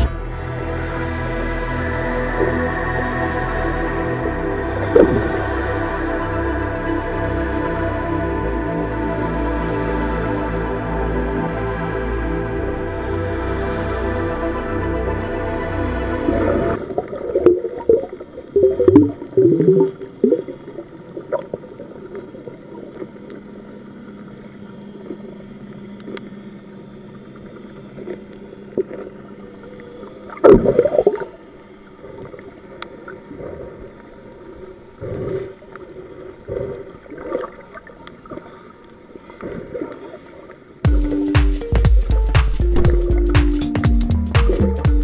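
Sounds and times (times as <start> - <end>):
faint steady hum: 0.0 - 44.8
underwater gurgling and sloshing: 1.0 - 40.8.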